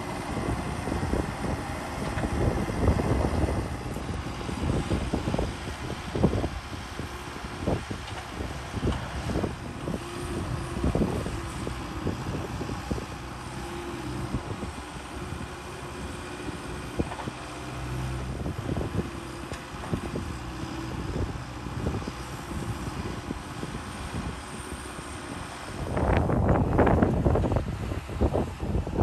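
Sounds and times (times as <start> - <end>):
loader diesel engine running: 0.0 - 29.0
wind buffeting microphone: 0.0 - 29.0.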